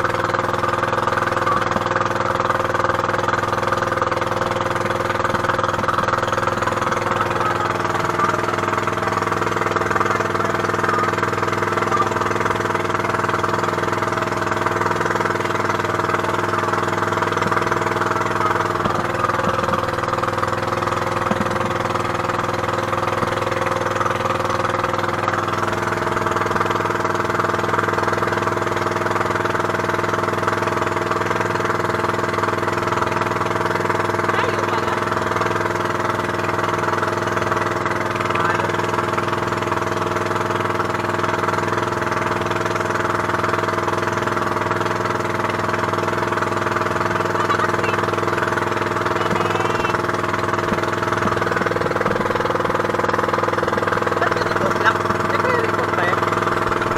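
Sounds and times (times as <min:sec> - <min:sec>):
boat engine running: 0:00.0 - 0:56.9
wind: 0:00.0 - 0:56.9.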